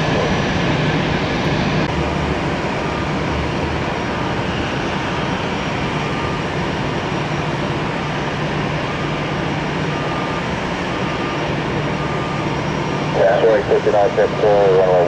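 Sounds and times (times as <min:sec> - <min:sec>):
aircraft engines rushing: 0:00.0 - 0:15.0.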